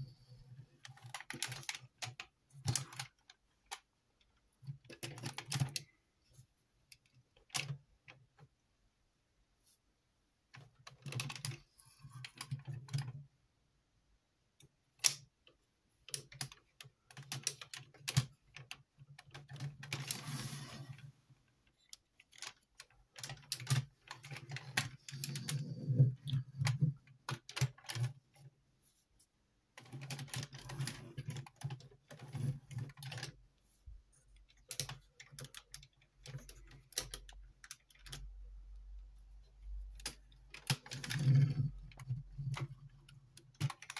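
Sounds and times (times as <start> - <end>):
plastic parts clicking and rattling: 0.8 - 6.0, 6.9 - 8.6, 10.5 - 13.2, 14.6 - 28.5, 29.7 - 33.4, 34.2 - 43.9.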